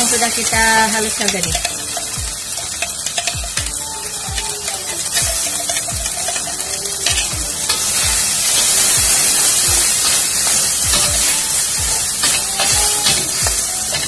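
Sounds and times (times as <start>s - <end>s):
spice paste sizzling in oil: 0.0s - 14.0s.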